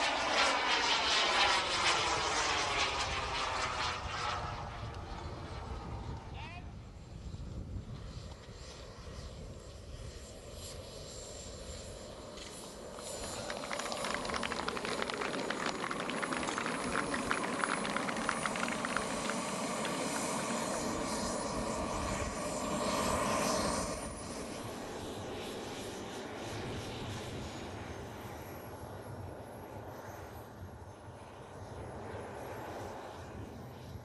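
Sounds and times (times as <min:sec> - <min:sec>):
model jet engine roar and whine: 0:00.0 - 0:34.0.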